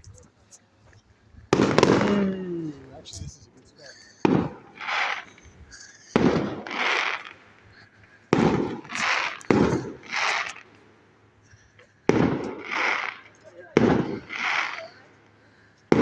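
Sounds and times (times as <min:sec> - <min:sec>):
firework bangs: 0:01.4 - 0:16.0
firework crackling bursts: 0:01.4 - 0:16.0.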